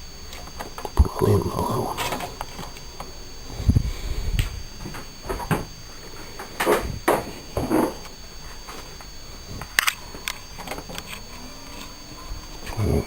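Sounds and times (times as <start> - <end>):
high-pitched electrical whine: 0.0 - 13.0.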